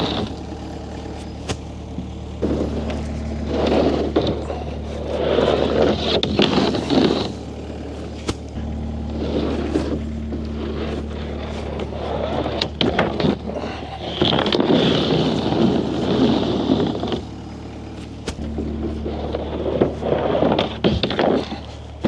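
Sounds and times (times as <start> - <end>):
engine running steadily: 0.0 - 22.0
noisy surges of working sound: 0.0 - 22.0.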